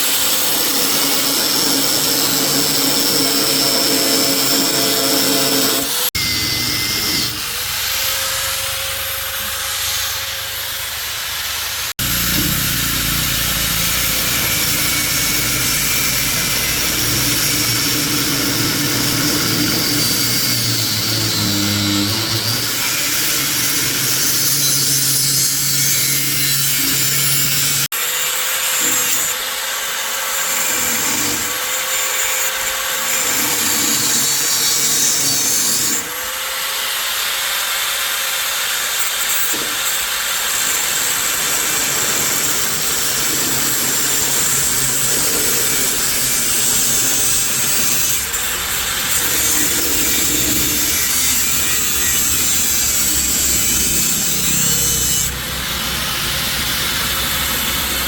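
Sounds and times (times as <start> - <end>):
power tool grinding: 0.0 - 58.0.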